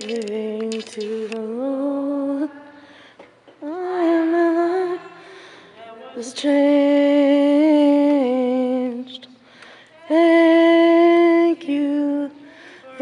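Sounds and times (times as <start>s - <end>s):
woman singing gospel song: 0.0s - 13.0s.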